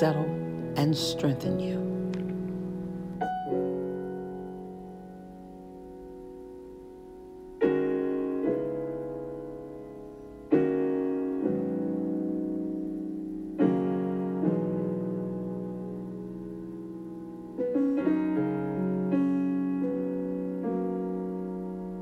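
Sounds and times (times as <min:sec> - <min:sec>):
slow piano chords: 0:00.0 - 0:22.0.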